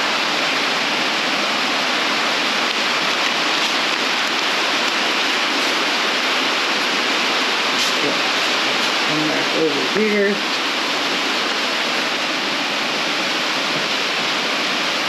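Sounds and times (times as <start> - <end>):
rain falling on roof: 0.0 - 15.0.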